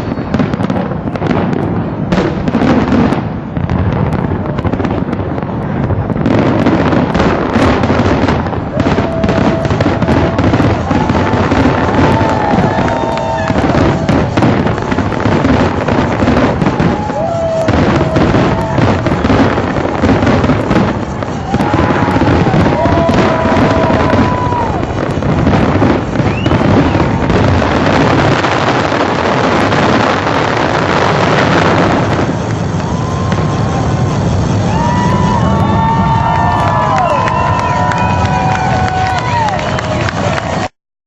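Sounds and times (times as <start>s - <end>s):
fireworks crackling bursts: 0.0s - 40.7s
whistling fireworks: 0.0s - 40.7s.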